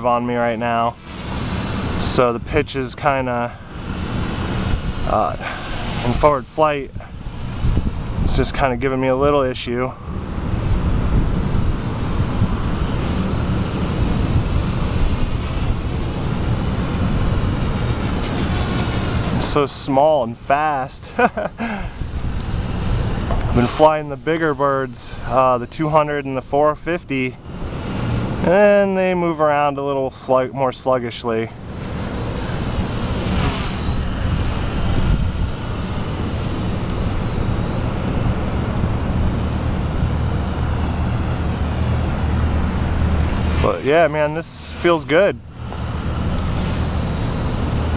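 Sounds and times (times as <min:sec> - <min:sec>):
rc helicopter high whine: 0:00.0 - 0:47.9.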